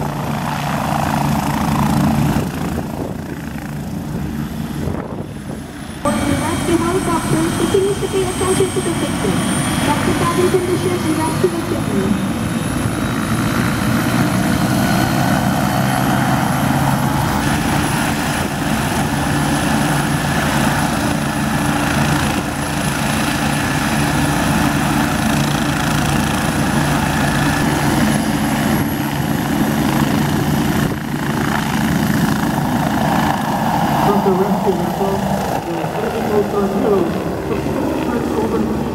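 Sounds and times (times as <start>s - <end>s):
helicopter engines and rotor: 0.0s - 38.9s
high turbine whine: 0.0s - 38.9s.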